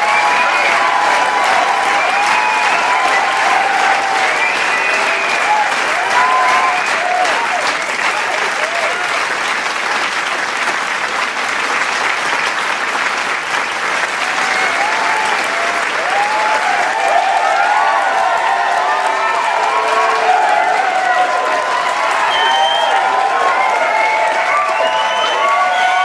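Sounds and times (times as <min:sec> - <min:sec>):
cheers and whoops: 0:00.0 - 0:09.2, 0:14.2 - 0:26.0
crowd applauding: 0:00.0 - 0:26.0.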